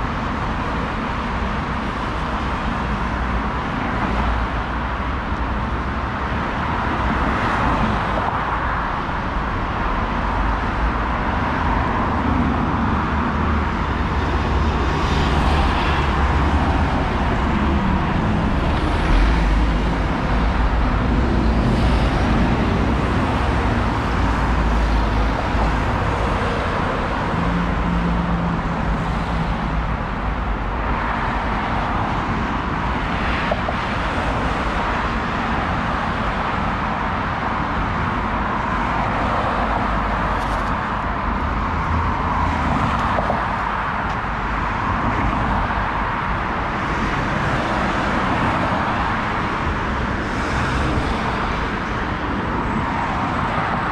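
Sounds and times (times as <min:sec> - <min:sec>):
vehicle road noise: 0:00.0 - 0:53.9.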